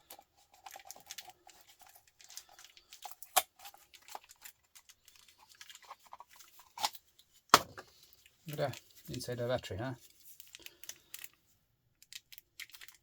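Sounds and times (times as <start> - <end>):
small clicks and rustling: 0.0 - 7.4, 8.0 - 9.4, 10.0 - 13.0.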